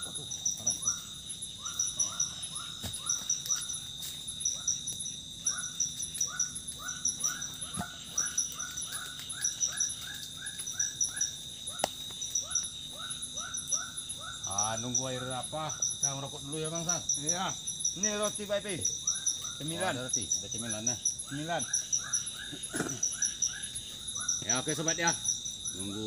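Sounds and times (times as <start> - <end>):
insects buzzing: 0.0 - 26.0
pulsed high chirping: 0.0 - 26.0.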